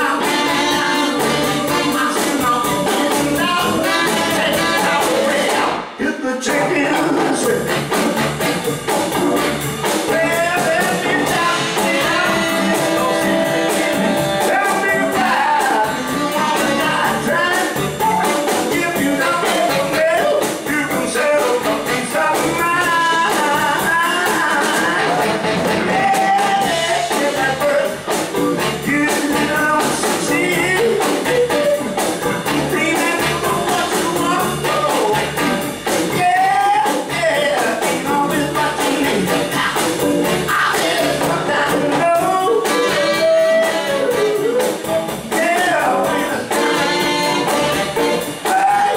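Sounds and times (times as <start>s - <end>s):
man singing: 0.0s - 8.0s, 9.9s - 48.9s
rhythm and blues band playing: 0.0s - 48.9s.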